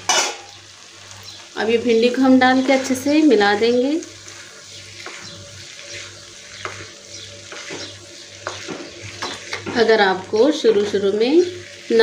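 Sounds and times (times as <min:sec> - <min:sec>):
spatula scraping pan: 0:00.0 - 0:00.5, 0:02.0 - 0:12.0
vegetables sizzling in pan: 0:00.0 - 0:12.0.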